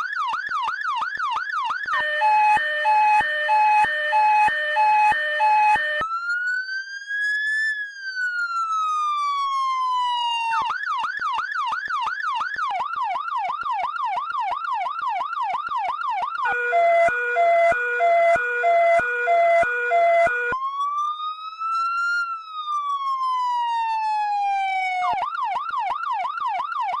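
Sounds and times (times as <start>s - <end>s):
cartoon fire engine siren: 0.0s - 27.0s.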